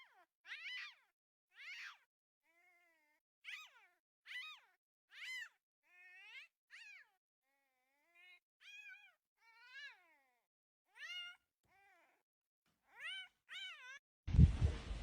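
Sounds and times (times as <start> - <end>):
small animal meowing: 0.0 - 12.2, 12.8 - 14.0.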